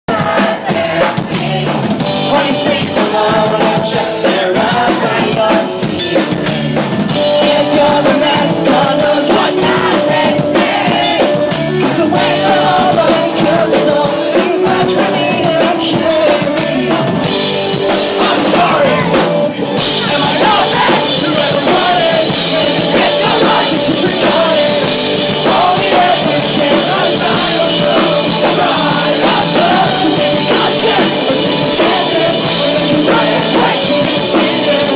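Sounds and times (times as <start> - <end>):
pop-punk band playing live: 0.1 - 34.9.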